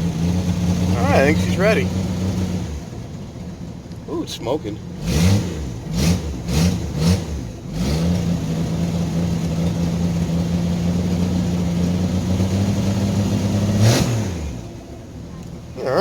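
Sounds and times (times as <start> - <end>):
car engine revving and running: 0.0 - 16.0.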